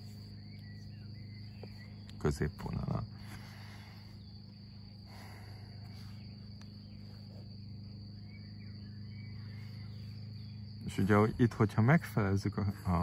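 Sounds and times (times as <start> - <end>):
crickets trilling: 0.0 - 13.0
low steady hum: 0.0 - 13.0.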